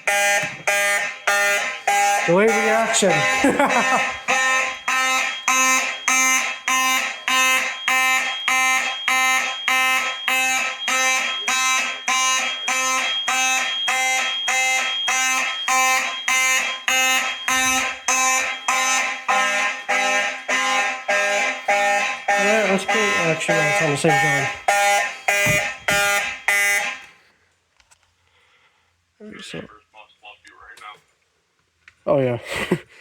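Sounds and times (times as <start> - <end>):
fire alarm horn pulsing: 0.0 - 27.3.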